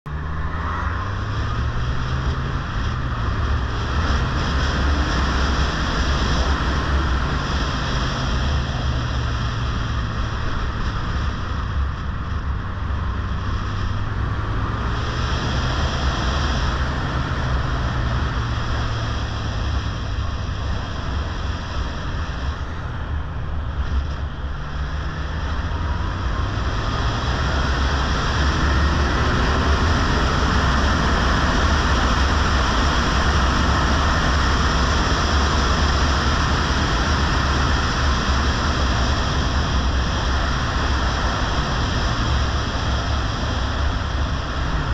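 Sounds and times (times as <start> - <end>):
motorcycle engine running: 0.1 - 44.9
wind rumble on microphone: 0.1 - 44.9.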